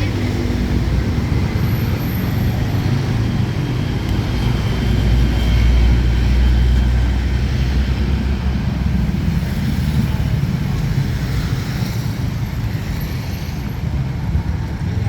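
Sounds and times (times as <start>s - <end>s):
engine and traffic rumble: 0.0s - 15.0s.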